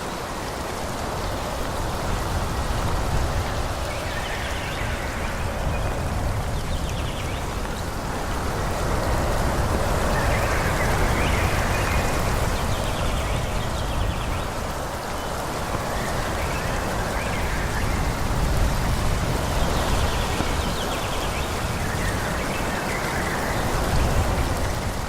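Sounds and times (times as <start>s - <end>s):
wind rushing through trees: 0.0s - 25.0s.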